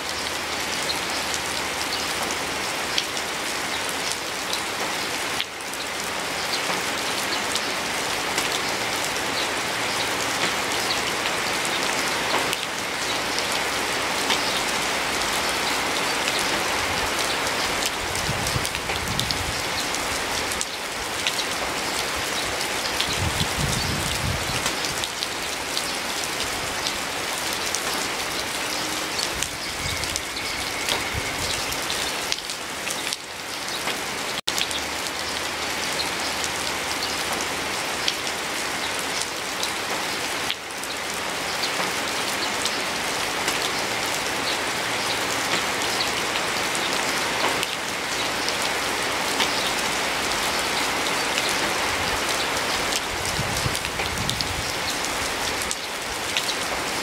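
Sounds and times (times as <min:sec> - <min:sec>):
steady rain patter: 0:00.0 - 0:57.0.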